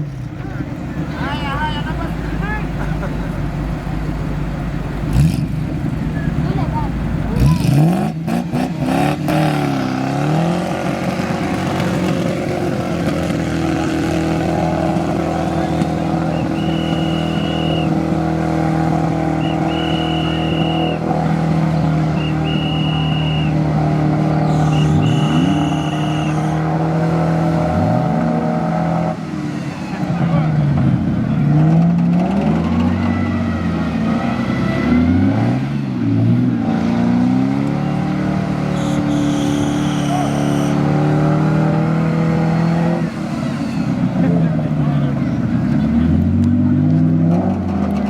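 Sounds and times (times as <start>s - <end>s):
off-road engine revving: 0.0s - 48.0s.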